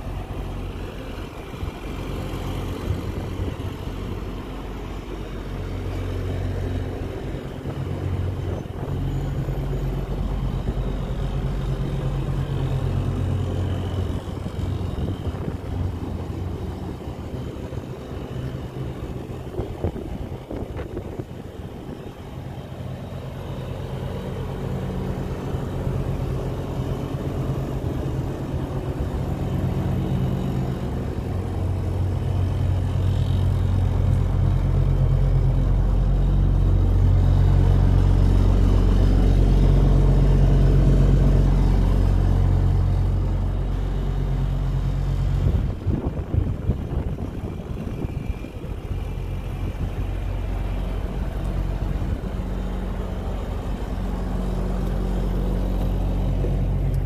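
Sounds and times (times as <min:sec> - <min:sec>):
combine harvester diesel engine: 0:00.0 - 0:57.0.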